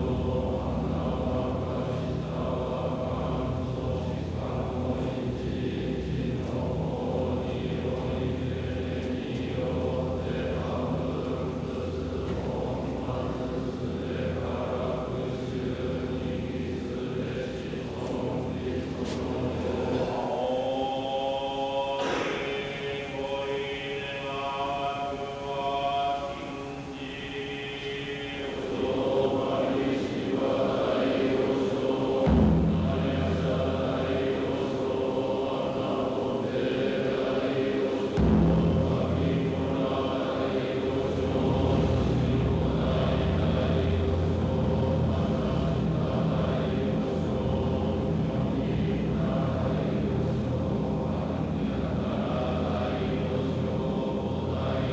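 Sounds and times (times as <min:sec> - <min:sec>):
deeper louder chant layer: 0:00.0 - 0:54.9
monks chanting in unison: 0:00.0 - 0:54.9.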